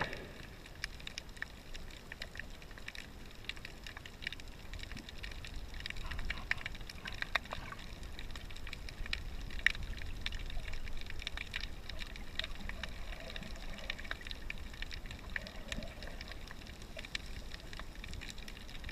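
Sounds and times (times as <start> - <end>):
small crackling clicks: 0.0 - 18.9
underwater rumble of water: 0.0 - 18.9.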